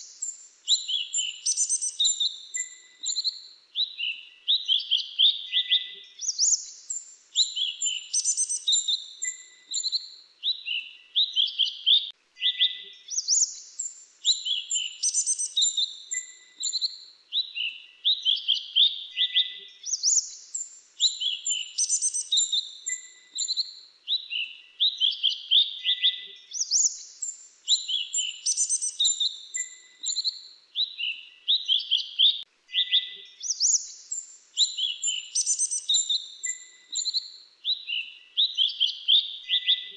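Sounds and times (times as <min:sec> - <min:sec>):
bird chirps and trills: 0:00.0 - 0:18.6, 0:19.2 - 0:39.9.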